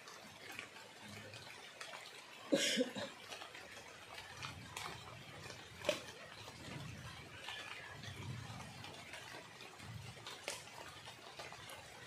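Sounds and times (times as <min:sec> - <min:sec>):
rain hissing on a river: 0:00.0 - 0:12.0.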